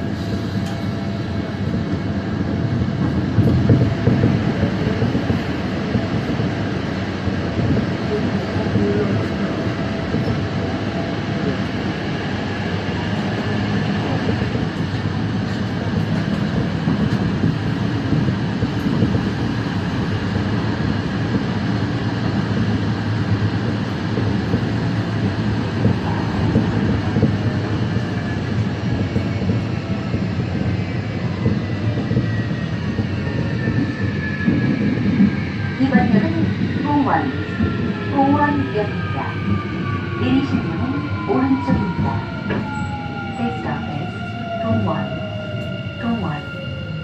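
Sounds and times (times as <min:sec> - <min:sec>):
subway train wheels rumbling on rails: 0:00.0 - 0:47.0.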